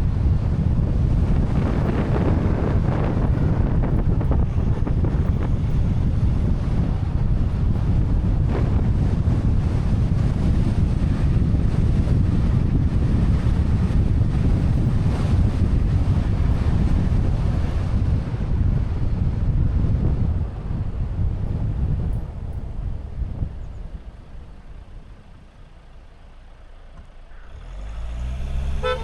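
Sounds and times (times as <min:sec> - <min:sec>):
wind buffeting microphone: 0:00.0 - 0:26.6, 0:27.9 - 0:29.0
car driving rumble: 0:00.0 - 0:29.0.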